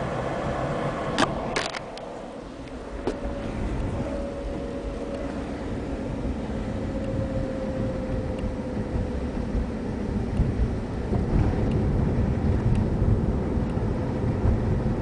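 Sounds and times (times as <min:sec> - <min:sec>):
loud road rumble: 0:00.0 - 0:15.0
transmission whine: 0:00.0 - 0:15.0.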